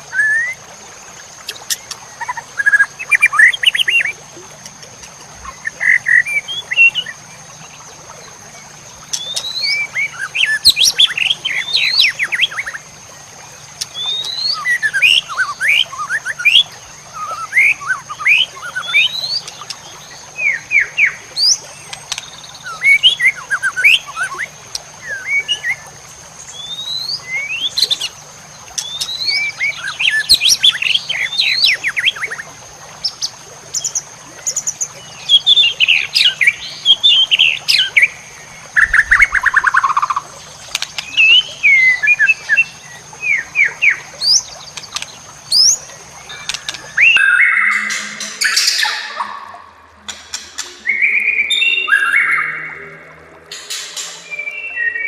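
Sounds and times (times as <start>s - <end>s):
bird song whistles and trills: 0.0s - 0.7s, 1.4s - 4.2s, 5.0s - 12.9s, 13.8s - 55.0s.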